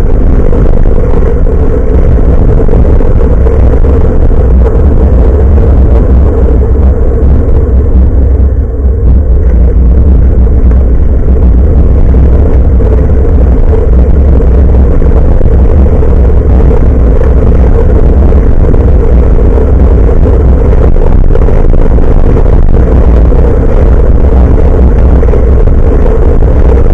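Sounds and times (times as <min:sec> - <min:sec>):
wind and road rumble: 0:00.0 - 0:26.9.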